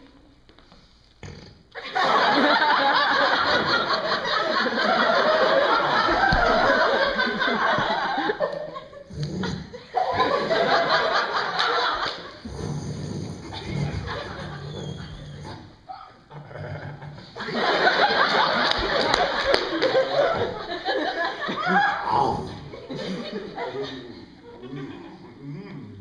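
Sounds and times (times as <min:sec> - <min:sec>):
audience laughing: 0:01.8 - 0:15.7, 0:16.8 - 0:25.4.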